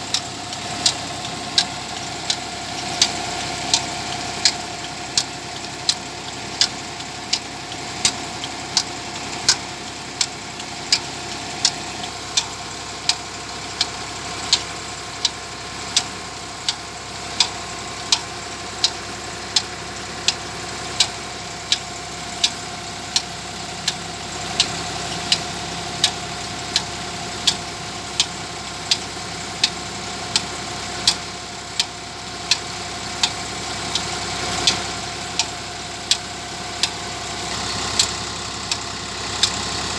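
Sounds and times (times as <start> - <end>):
sharp repeating tick: 0.0 - 27.6, 28.2 - 39.9
tractor diesel engine running: 0.0 - 39.9.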